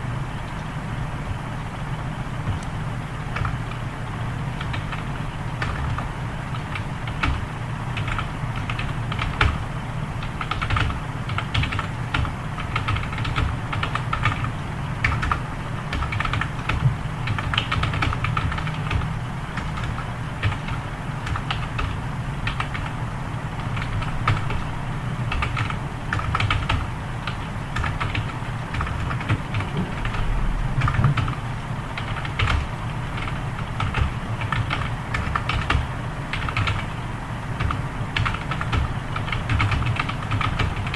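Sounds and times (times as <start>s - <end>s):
low steady hum: 0.0s - 40.9s
fast typing on keyboard: 3.3s - 3.8s, 4.6s - 9.6s, 10.2s - 23.0s, 23.6s - 24.7s, 25.3s - 31.4s, 32.0s - 37.0s, 37.6s - 40.9s.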